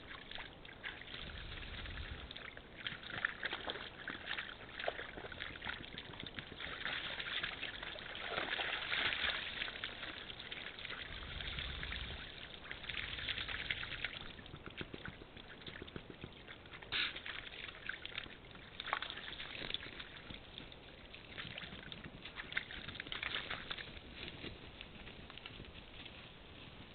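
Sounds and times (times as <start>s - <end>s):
hooves splashing in water: 0.0s - 26.9s.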